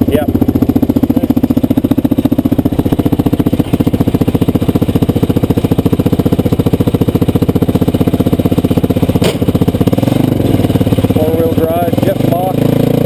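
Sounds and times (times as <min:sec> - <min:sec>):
engine idling with rapid pulse: 0:00.0 - 0:13.0.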